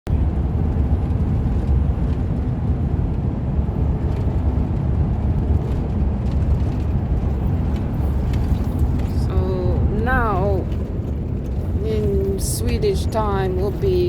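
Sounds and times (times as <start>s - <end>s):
heavy truck engine and road noise: 0.1s - 14.0s.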